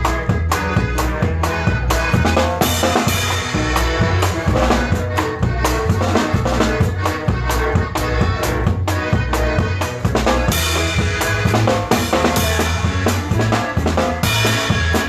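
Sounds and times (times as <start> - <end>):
bass line: 0.0 - 15.0
drum kit beat: 0.0 - 15.0
live band playing: 0.0 - 15.0.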